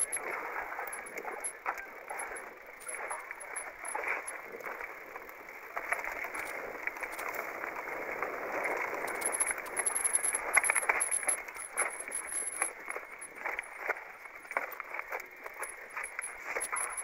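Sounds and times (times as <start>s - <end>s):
bike rattling and clattering: 0.0s - 17.0s.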